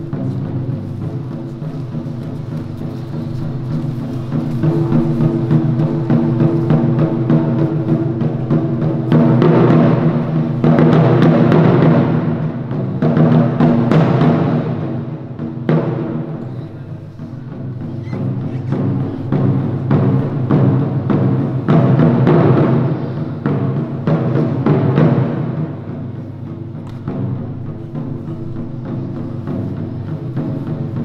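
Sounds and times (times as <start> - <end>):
taiko drumming: 0.0 - 31.0.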